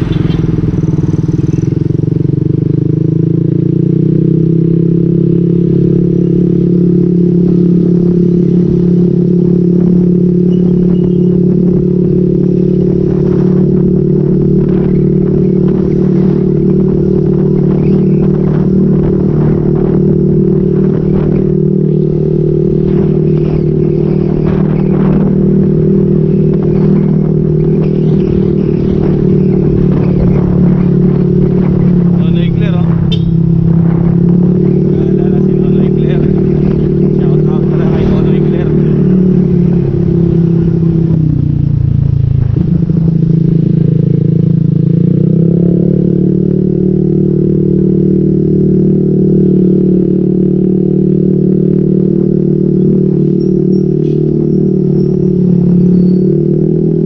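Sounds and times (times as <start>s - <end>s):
motorcycle engine drone: 0.0s - 57.0s.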